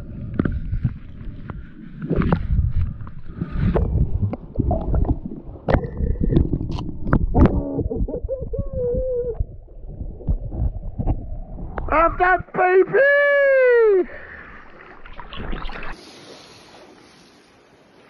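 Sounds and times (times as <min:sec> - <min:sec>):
underwater water rumble: 0:00.0 - 0:12.5, 0:14.1 - 0:16.0.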